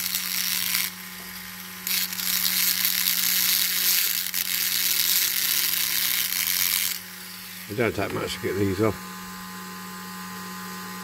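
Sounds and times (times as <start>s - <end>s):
rotary tool grinding metal: 0.0s - 8.9s.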